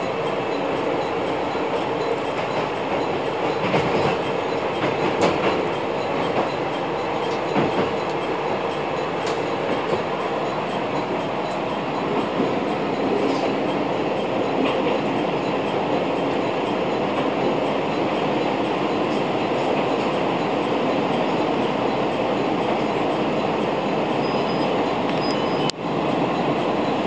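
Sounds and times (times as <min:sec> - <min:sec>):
railcar engine and wheel noise: 0:00.0 - 0:27.0.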